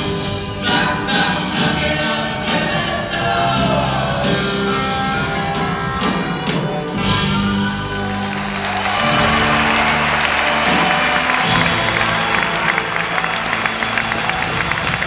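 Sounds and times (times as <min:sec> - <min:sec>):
live rock band with singing: 0:00.0 - 0:13.5.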